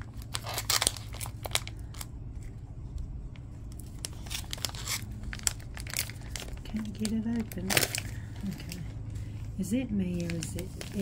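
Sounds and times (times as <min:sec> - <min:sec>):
plastic packaging crinkling: 0:00.0 - 0:02.6, 0:03.6 - 0:09.3, 0:10.1 - 0:11.0.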